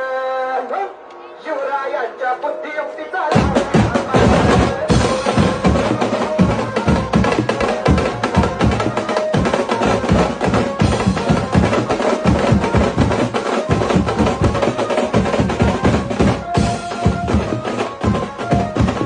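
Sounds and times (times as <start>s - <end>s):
instrumental music with fast percussion: 3.3s - 19.0s.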